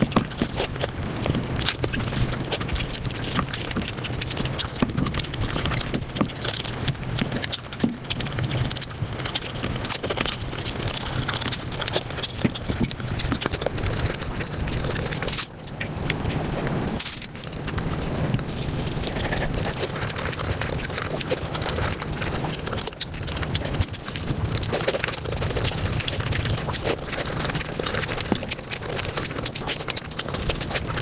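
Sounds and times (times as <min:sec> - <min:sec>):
rapid chewing and crunching: 0:00.0 - 0:31.0.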